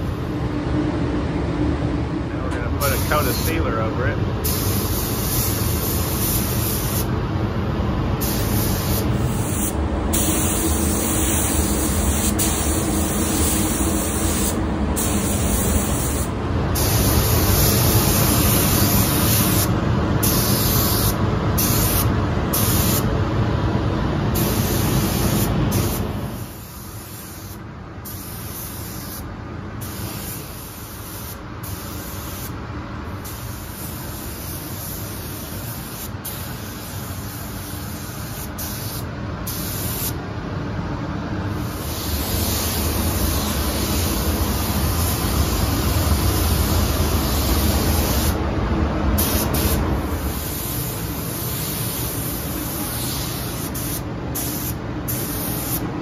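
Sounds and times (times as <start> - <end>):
paint spray gun hissing: 4.4 - 7.1, 8.2 - 23.1, 24.4 - 32.6, 33.2 - 40.2, 41.6 - 48.4, 49.2 - 55.8.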